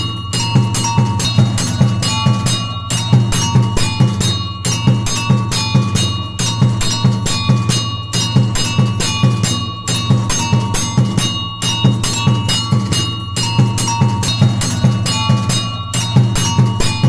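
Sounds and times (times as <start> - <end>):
deep drum beating: 0.0 - 17.0
temple bells ringing: 0.0 - 17.0.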